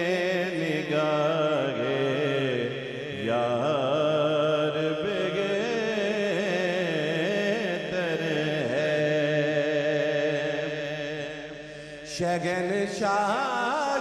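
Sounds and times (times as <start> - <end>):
man singing melismatic lines: 0.0 - 14.0.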